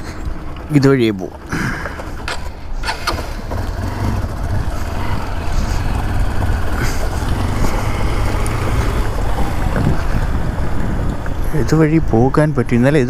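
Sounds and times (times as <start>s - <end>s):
motorcycle engine rumble: 0.0s - 13.0s
wind buffeting microphone: 1.5s - 13.0s.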